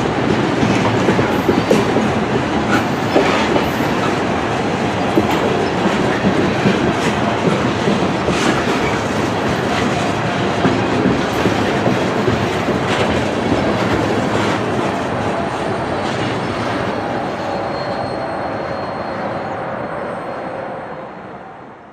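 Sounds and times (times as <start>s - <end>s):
train wheels rumbling on rail: 0.0s - 21.6s.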